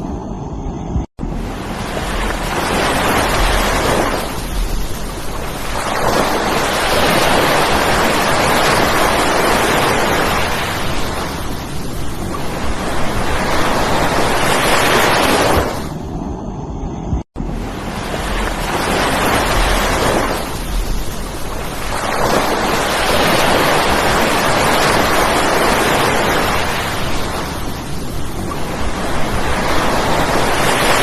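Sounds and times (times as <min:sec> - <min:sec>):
wind buffeting microphone: 0:00.0 - 0:31.0
surf breaking on beach: 0:01.2 - 0:16.0, 0:17.4 - 0:31.0.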